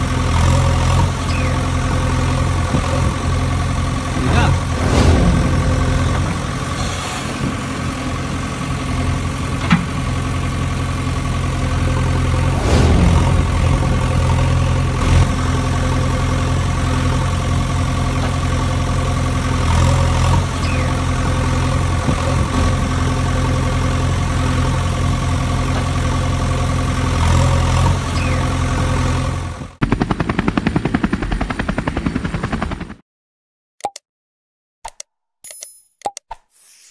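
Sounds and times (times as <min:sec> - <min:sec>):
heavy engine running: 0:00.0 - 0:33.0
helicopter rotor chop: 0:00.0 - 0:33.0.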